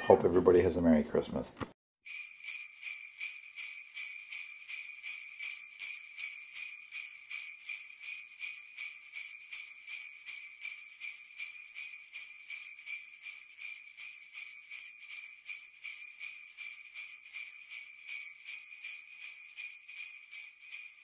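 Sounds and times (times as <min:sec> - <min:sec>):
sleigh bells jingling: 0:02.0 - 0:21.0.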